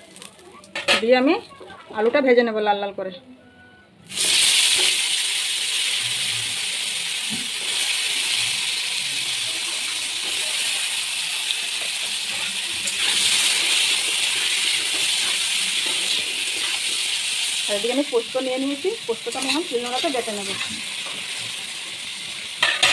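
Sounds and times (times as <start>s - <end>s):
potatoes sizzling in hot oil: 0.0s - 1.1s, 4.1s - 22.9s.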